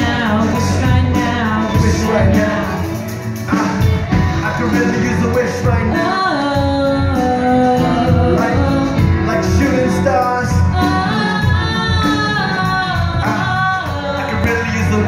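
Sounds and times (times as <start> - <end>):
live band playing pop song: 0.0 - 15.0
person singing long sliding notes: 0.0 - 15.0.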